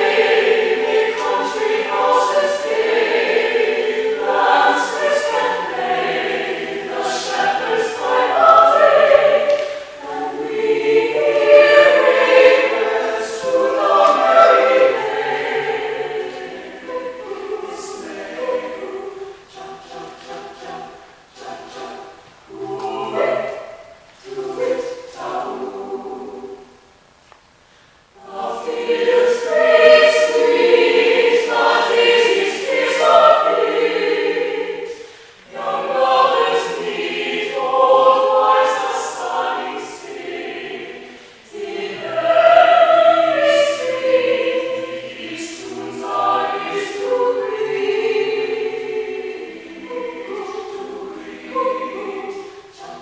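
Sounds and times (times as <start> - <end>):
a cappella choir singing: 0.0 - 27.0, 28.0 - 53.0.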